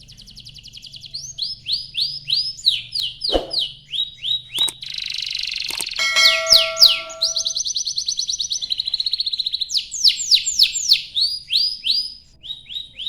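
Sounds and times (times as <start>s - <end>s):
canary singing trills: 0.1s - 13.0s.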